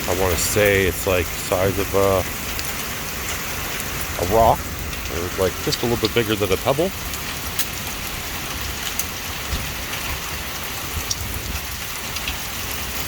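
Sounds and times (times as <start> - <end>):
hailstones striking: 0.0 - 13.0
heavy rain hissing: 0.0 - 13.0.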